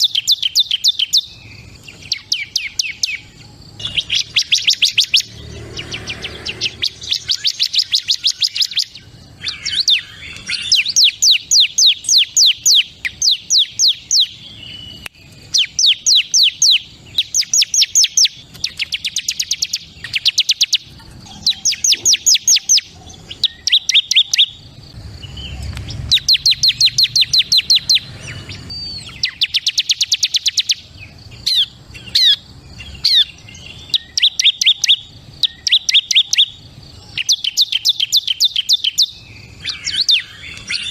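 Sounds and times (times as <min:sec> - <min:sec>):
bird singing fast high trills: 0:00.0 - 0:40.9.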